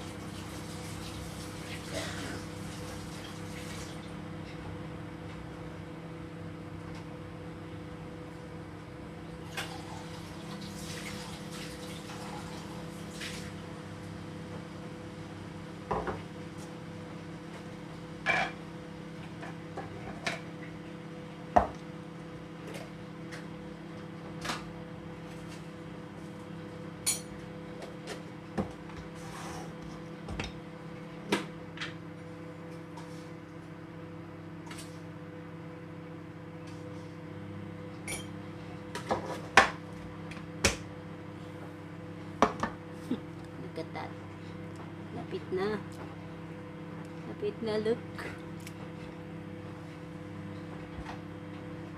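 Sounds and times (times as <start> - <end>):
microwave oven humming: 0.0 - 51.9.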